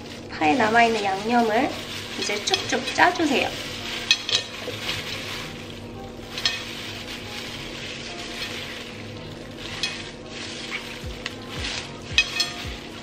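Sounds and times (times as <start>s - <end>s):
plastic gloves crinkling: 0.0s - 13.0s
wet crackling of squeezed leaves: 0.0s - 13.0s.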